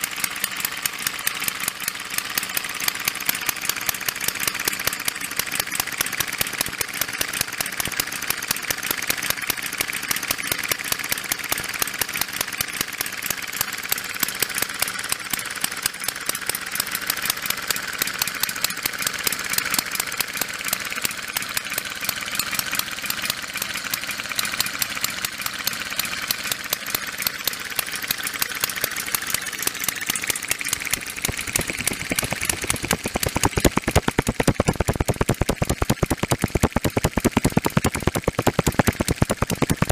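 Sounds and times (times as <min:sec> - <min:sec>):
model engine running: 0:00.0 - 0:39.9.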